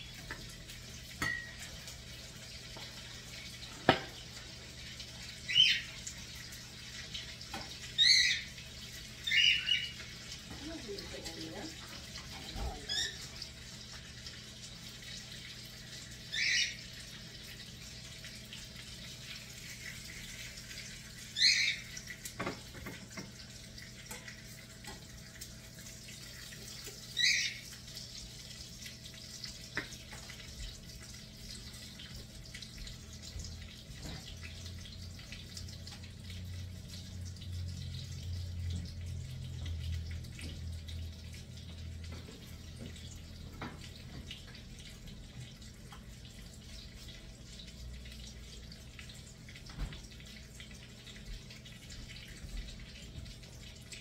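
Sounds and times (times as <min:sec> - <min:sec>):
pot simmering: 0:00.0 - 0:54.0.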